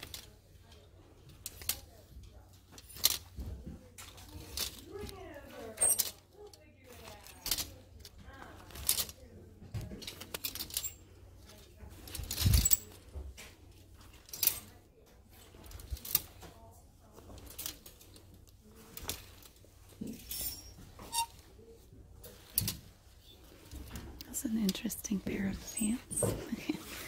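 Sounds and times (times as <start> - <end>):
hangers clicking along a metal rack: 0.0 - 21.5, 22.1 - 27.0.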